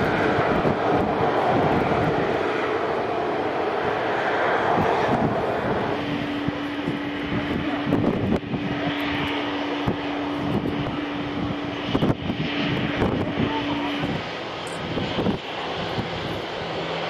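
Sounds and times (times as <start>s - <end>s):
distant jet engines idling: 0.0s - 17.0s.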